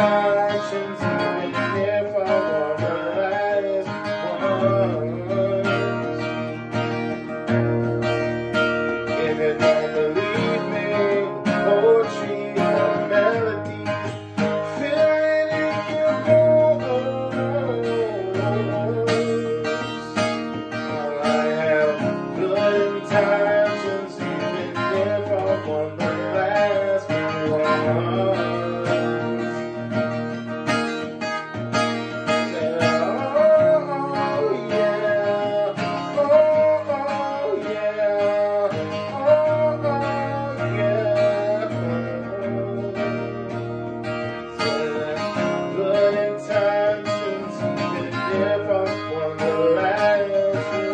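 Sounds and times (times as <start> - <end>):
acoustic guitar strumming chords: 0.0 - 50.9.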